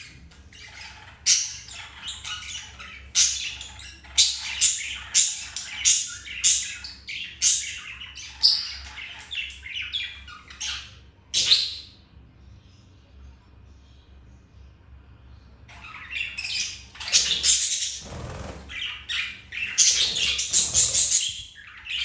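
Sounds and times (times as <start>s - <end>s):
budgerigars chirping and squawking: 0.0s - 12.1s, 15.7s - 22.0s.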